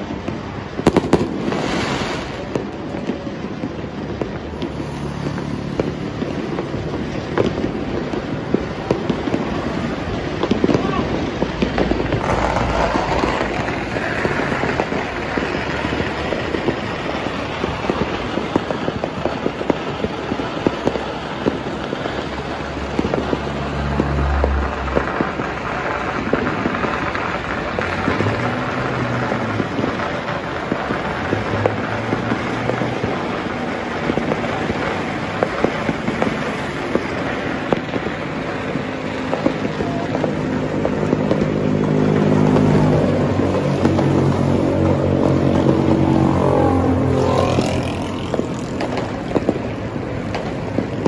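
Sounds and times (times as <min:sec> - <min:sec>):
firecrackers popping: 0:00.0 - 0:51.0
traffic engine hum: 0:00.0 - 0:51.0.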